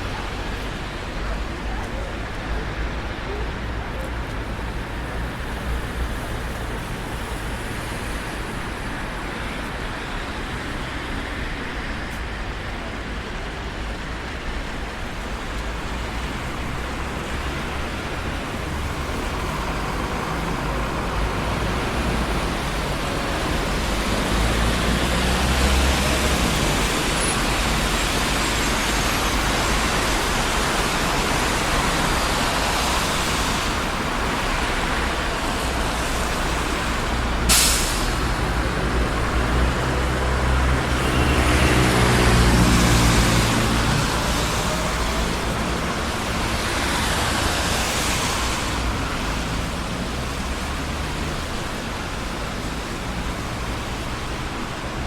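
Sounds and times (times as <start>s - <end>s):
passing cars and tyre noise: 0.0s - 55.0s.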